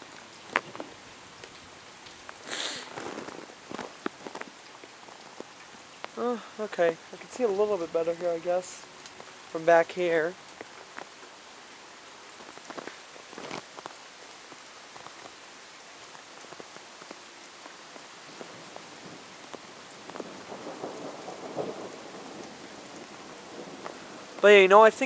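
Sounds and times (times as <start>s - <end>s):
light rain hissing: 0.0s - 25.0s
raindrop ticks and drips: 0.0s - 25.0s.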